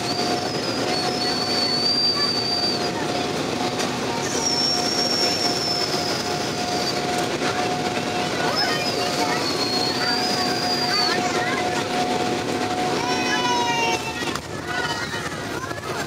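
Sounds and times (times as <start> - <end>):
airliner cabin engine rush: 0.0 - 16.0.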